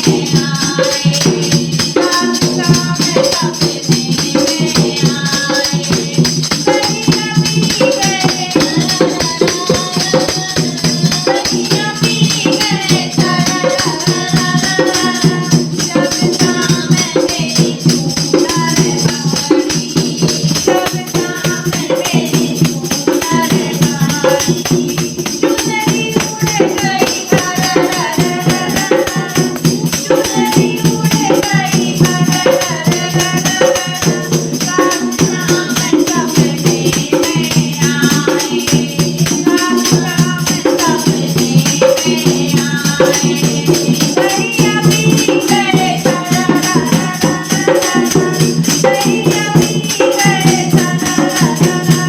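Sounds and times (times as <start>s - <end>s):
rhythmic percussion beat: 0.0s - 52.0s
women singing: 0.0s - 52.0s.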